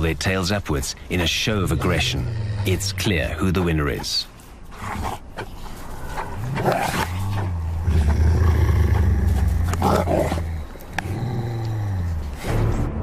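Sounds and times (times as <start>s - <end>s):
wolves growling: 1.0s - 12.8s
wolves snarling: 1.1s - 12.7s.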